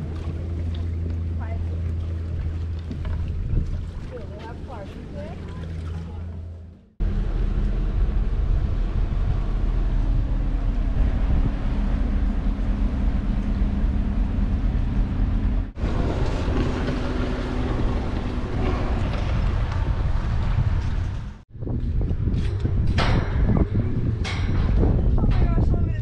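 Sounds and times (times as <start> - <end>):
jet skis running on water: 0.0 - 21.4
boat diesel engine drone: 0.0 - 25.3
wind rumble on microphone: 0.0 - 26.0.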